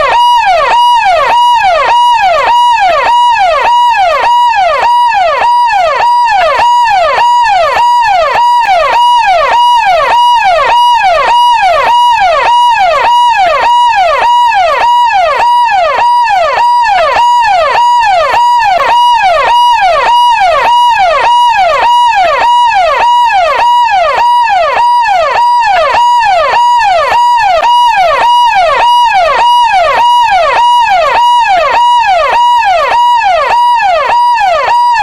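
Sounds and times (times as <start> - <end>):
electronic police siren: 0.0 - 35.0.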